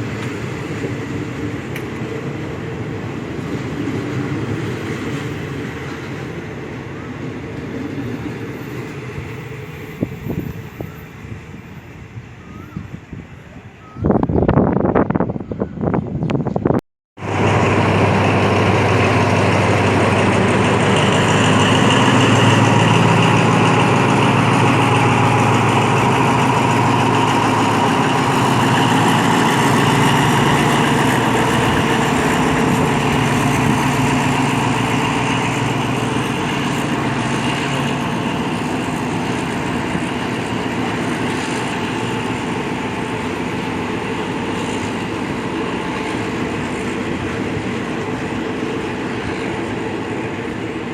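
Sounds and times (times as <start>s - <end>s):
diesel railcar engine humming: 0.0s - 50.9s.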